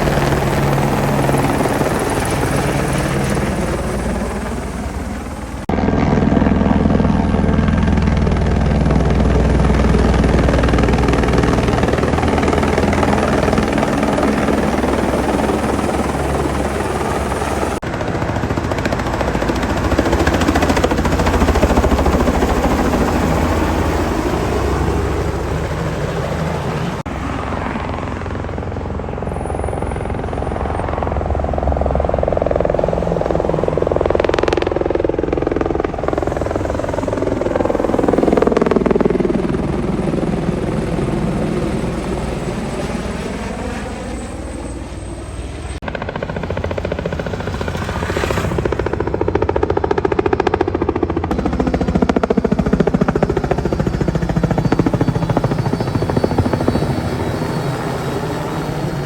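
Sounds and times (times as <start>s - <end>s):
helicopter rotor and turbine: 0.0s - 59.0s.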